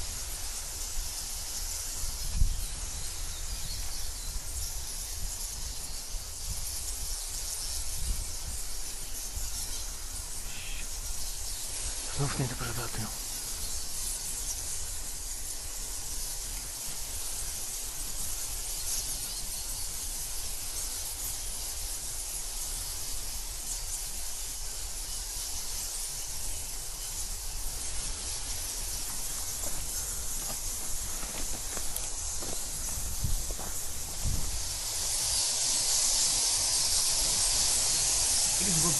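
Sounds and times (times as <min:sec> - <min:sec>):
bats chittering: 0:00.0 - 0:38.9.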